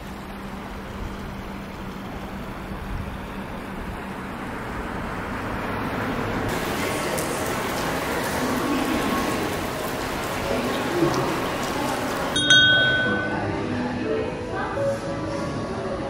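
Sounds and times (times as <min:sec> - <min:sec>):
traffic rumble: 0:00.0 - 0:14.7.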